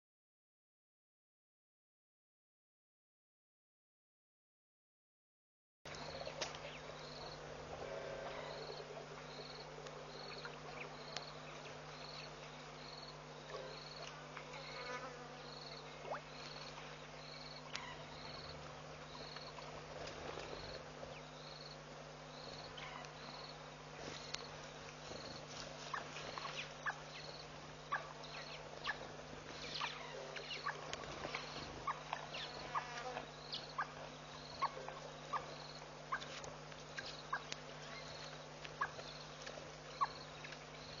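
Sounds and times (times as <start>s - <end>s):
insect chirping: 5.9s - 19.7s, 20.5s - 36.3s, 36.9s - 41.0s
low electrical hum: 5.9s - 41.0s.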